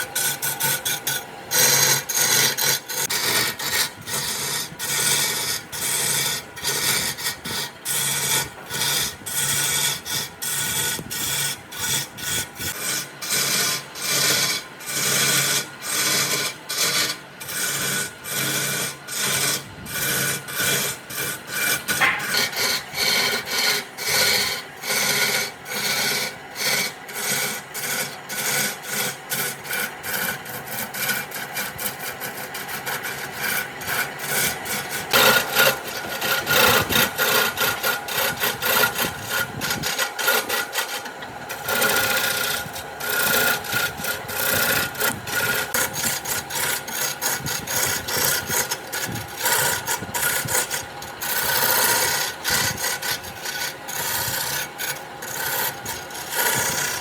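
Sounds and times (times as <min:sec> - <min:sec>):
sanding wood by hand: 0:00.0 - 0:57.0.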